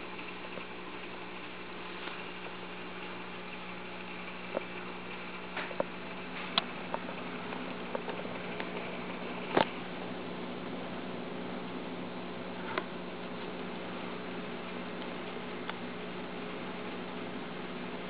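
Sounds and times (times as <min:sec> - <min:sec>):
aquarium pump electrical hum: 0:00.0 - 0:18.0.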